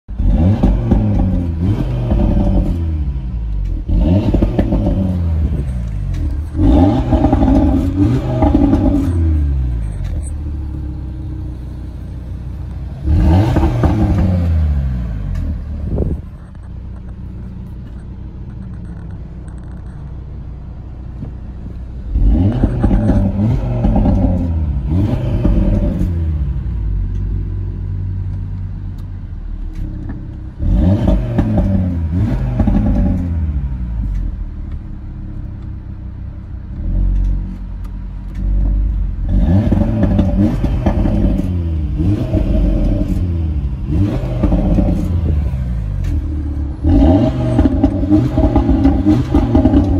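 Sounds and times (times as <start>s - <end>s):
car engine idling: 0.1s - 49.9s
car engine revving: 0.1s - 49.9s.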